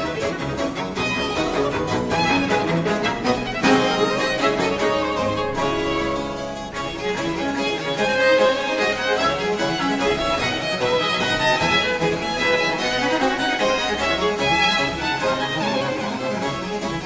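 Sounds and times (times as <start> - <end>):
violin-led string music: 0.0 - 17.0.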